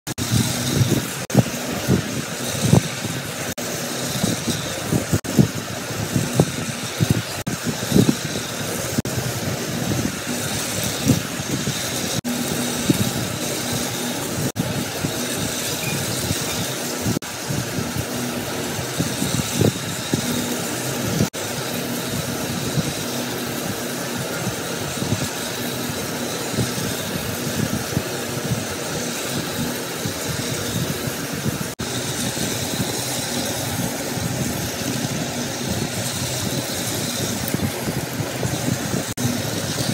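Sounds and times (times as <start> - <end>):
toy train motor whirring: 0.1 - 39.9.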